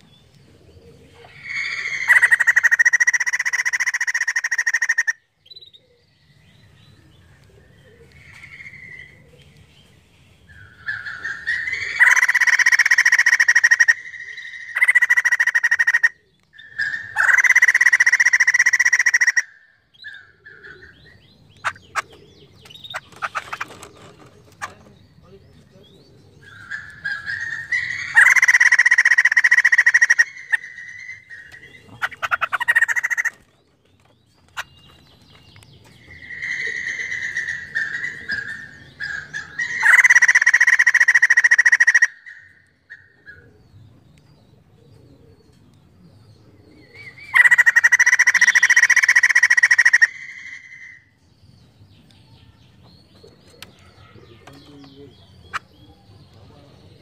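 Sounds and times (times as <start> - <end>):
softer bird calls: 0.0 - 57.0
bird rapid calls: 0.7 - 6.0, 7.5 - 43.6, 46.4 - 51.2, 52.8 - 57.0.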